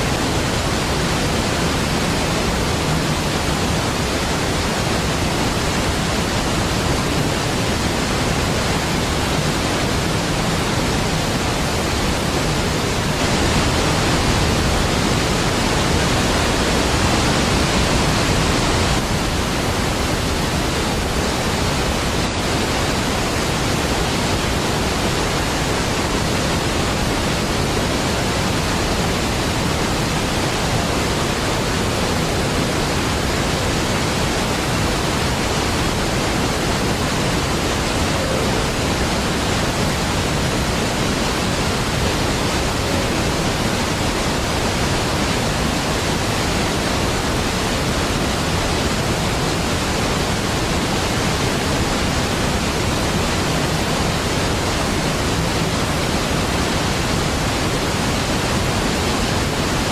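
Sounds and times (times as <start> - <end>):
large waterfall rushing: 0.0 - 59.9.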